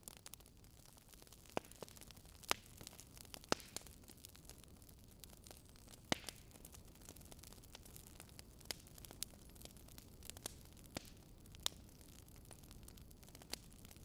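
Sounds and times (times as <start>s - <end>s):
campfire crackling: 0.0s - 14.0s
faint steady hiss: 0.0s - 14.0s.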